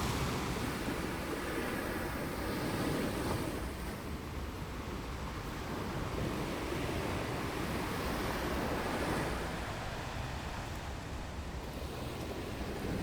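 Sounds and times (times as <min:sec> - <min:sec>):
ocean surf on a beach: 0:00.0 - 0:13.0
wind buffeting microphone: 0:00.0 - 0:13.0.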